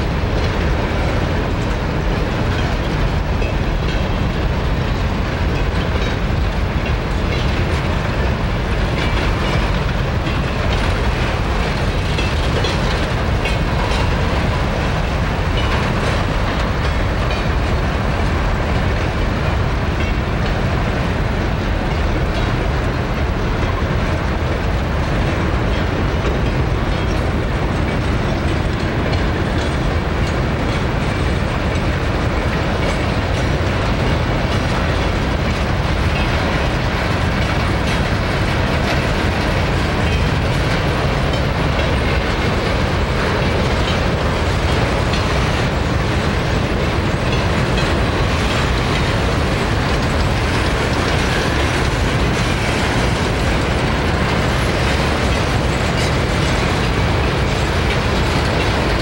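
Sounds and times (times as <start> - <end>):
freight train rolling past: 0.0 - 59.0
steel wheels clacking on rails: 0.0 - 59.0.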